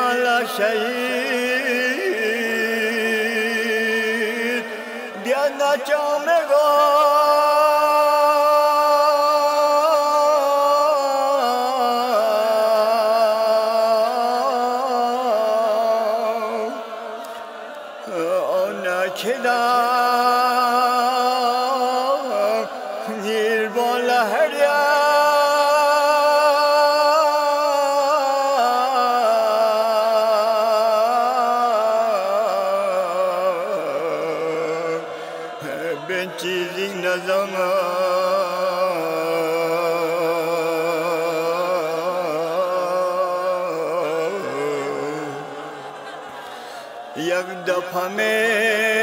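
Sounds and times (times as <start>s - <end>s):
wordless chanting with vibrato: 0.0s - 49.0s.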